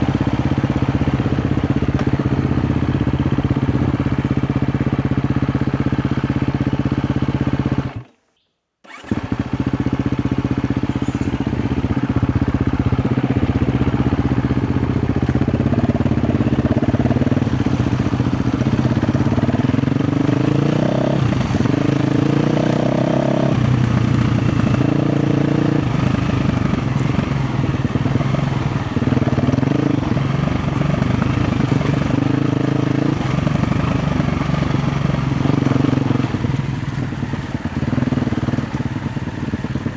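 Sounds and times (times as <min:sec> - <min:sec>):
motorcycle engine revving: 0:00.0 - 0:08.0, 0:08.9 - 0:39.9.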